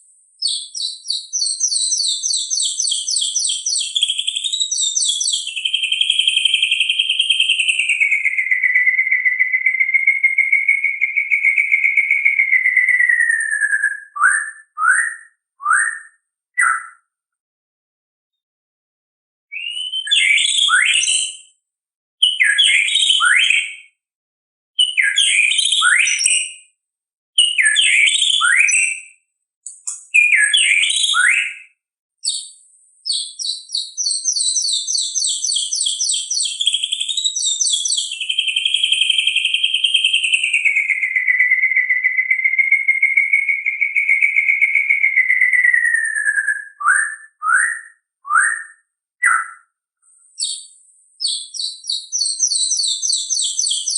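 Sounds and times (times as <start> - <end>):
bird singing whistled phrases: 0.4 - 17.1, 19.5 - 21.5, 22.2 - 23.9, 24.8 - 26.6, 27.4 - 49.8, 50.4 - 53.9
bird trill: 0.4 - 17.1, 19.5 - 21.5, 22.2 - 24.0, 24.8 - 26.7, 27.4 - 53.9.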